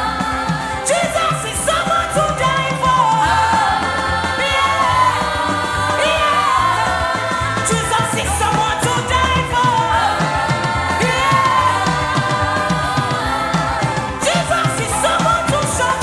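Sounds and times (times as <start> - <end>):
gospel band playing: 0.0 - 16.0
voices singing: 0.0 - 16.0.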